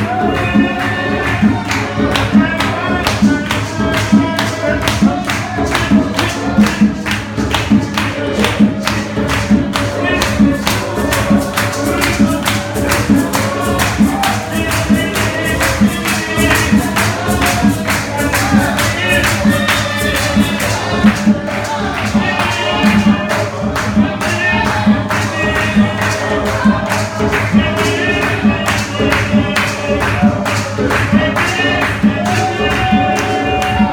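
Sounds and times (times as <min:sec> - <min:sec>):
fast percussion beat: 0:00.0 - 0:33.9
voices singing gospel: 0:00.0 - 0:33.9.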